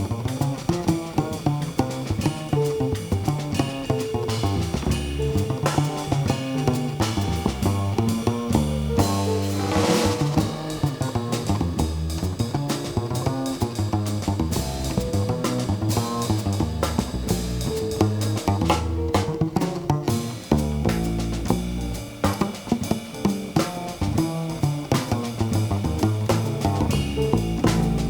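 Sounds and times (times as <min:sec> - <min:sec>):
bass: 0:00.0 - 0:28.0
drum kit: 0:00.0 - 0:28.0.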